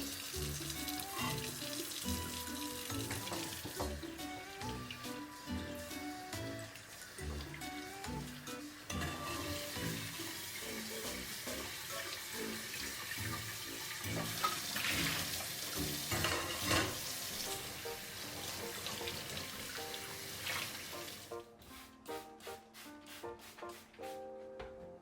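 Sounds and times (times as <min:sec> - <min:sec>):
tap water running into sink: 0:00.0 - 0:21.4
soft background music: 0:00.0 - 0:25.0.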